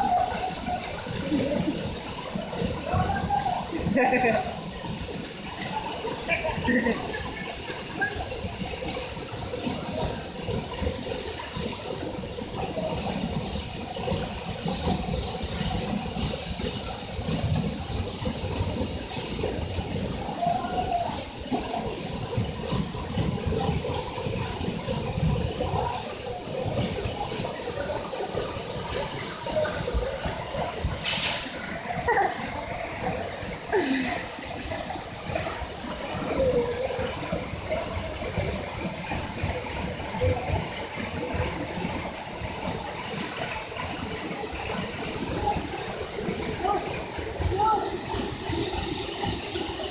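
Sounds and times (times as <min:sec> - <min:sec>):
low uneven rumble: 0:00.0 - 0:49.9
waterfall rushing: 0:00.0 - 0:49.9.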